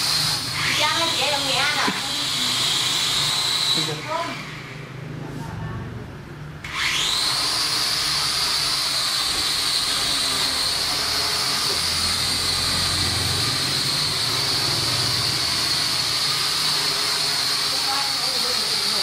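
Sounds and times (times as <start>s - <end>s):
quadcopter propellers whining: 0.0s - 4.9s, 6.6s - 19.0s.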